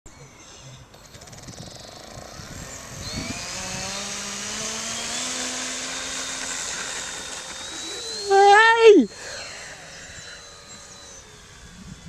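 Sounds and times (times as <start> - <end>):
model plane electric motor whine: 0.1 - 12.0.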